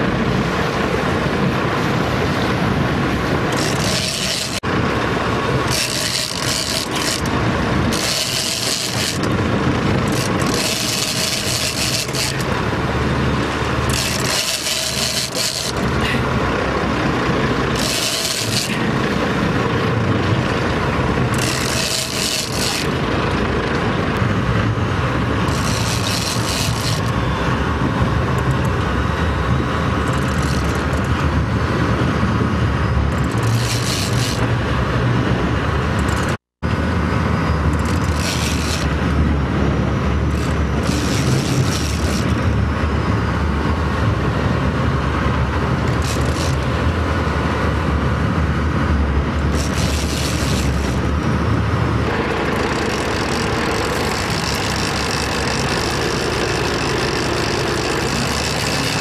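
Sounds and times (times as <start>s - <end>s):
boat engines running: 0.0s - 59.0s
water noise: 0.0s - 59.0s
wind: 0.0s - 59.0s.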